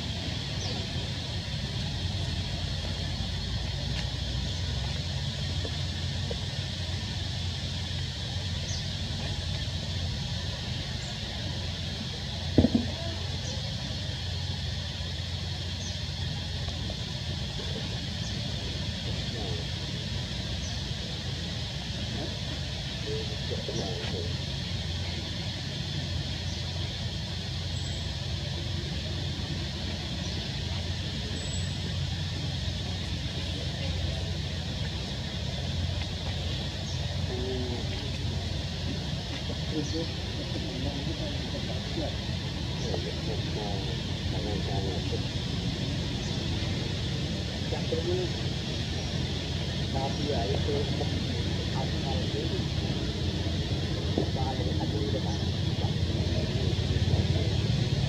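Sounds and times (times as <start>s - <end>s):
high hiss: 0.0s - 58.0s.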